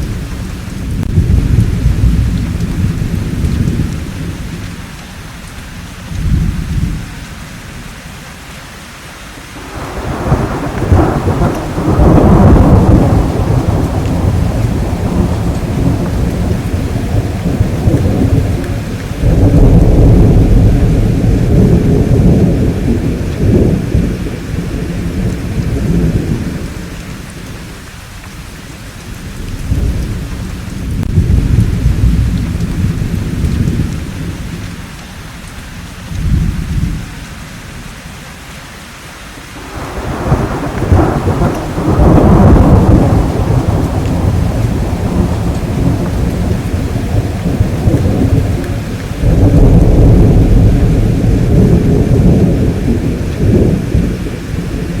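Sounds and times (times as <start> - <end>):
rolling thunder: 0.0 - 4.9, 6.0 - 7.1, 9.6 - 34.9, 36.0 - 37.1, 39.6 - 55.0
steady rain: 0.0 - 55.0.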